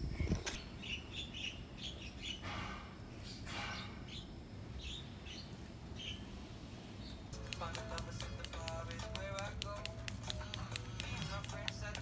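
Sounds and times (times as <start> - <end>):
small birds chirping: 0.1 - 2.5, 3.2 - 12.0.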